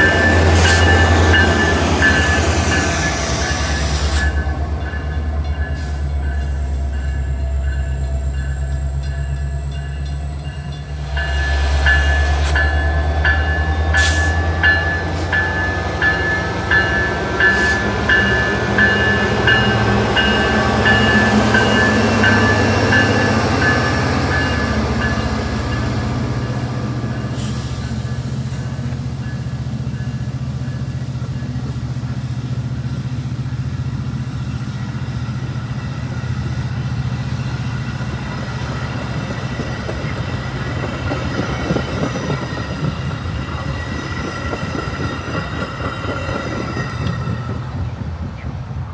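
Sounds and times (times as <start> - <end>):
train wheels rumbling and rattling: 0.0 - 48.9.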